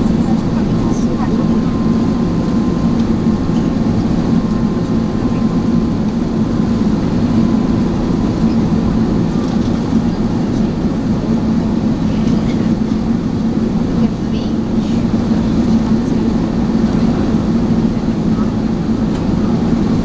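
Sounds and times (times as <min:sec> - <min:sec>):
low rumble of engines and airflow: 0:00.0 - 0:20.0.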